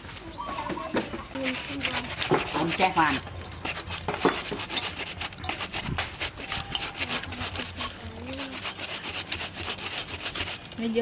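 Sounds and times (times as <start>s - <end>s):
root rasping on a hand grater: 1.3s - 11.0s.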